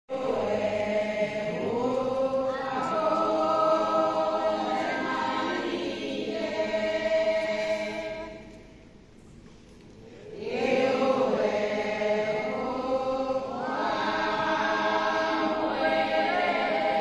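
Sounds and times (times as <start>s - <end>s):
women's choir singing: 0.1s - 8.9s, 10.2s - 17.0s.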